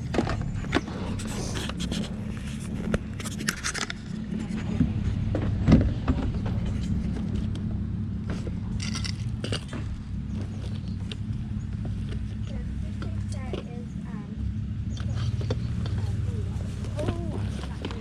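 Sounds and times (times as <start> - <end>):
low engine rumble: 0.0 - 18.0
light clicks and scrapes: 0.1 - 14.2, 14.9 - 18.0.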